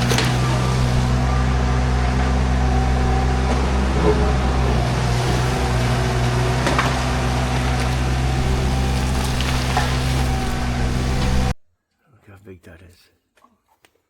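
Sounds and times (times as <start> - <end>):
engine running steadily: 0.0 - 11.5.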